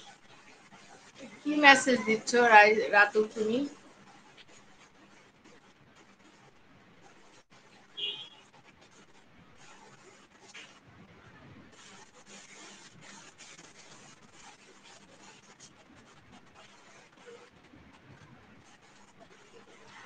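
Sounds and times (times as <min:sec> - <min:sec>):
scratching and rubbing: 0:00.0 - 0:20.0.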